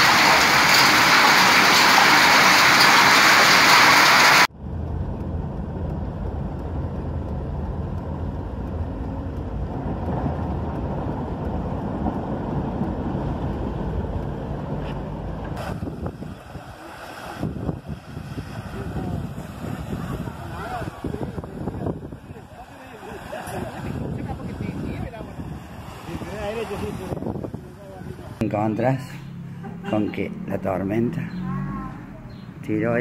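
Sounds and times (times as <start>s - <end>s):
heavy rain pouring: 0.0s - 28.4s
car driving through flooded street: 0.0s - 33.0s.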